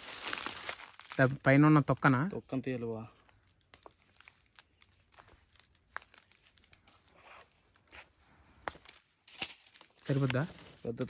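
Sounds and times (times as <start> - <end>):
vine bark tearing: 0.0 - 2.1, 3.2 - 11.0.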